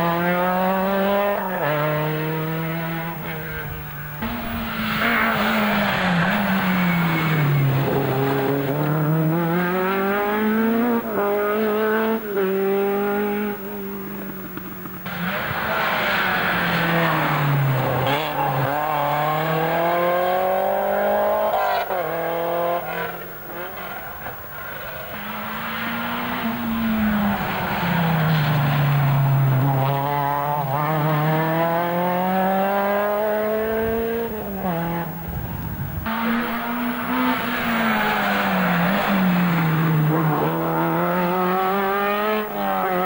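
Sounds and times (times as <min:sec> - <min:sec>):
gear changes: 0:00.0 - 0:43.0
rally car engines accelerating: 0:00.0 - 0:43.0.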